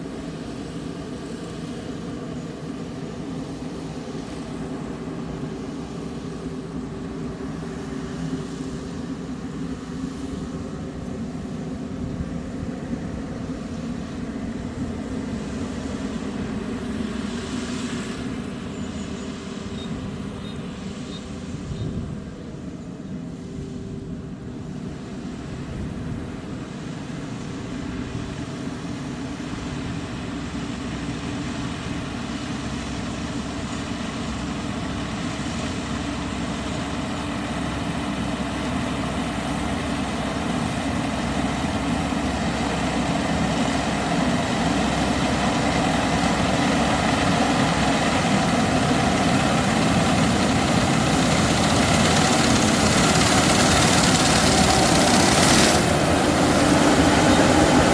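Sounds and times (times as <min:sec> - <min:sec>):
combine harvester engine drone: 0:00.0 - 0:57.9.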